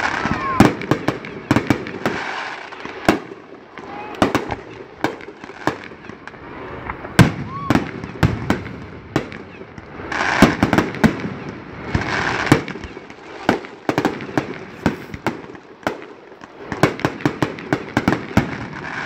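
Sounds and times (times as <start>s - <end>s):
fireworks bursting with bangs and pops: 0.0s - 19.0s.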